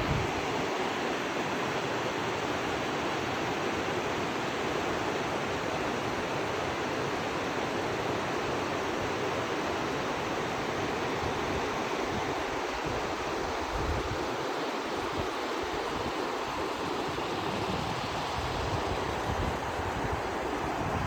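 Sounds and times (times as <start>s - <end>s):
river rushing over rapids: 0.0s - 21.0s.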